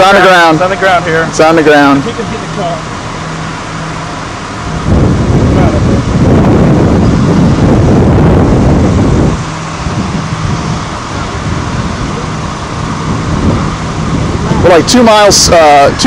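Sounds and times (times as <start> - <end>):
car engine hum: 0.0 - 16.0
wind rushing over microphone: 2.9 - 16.0.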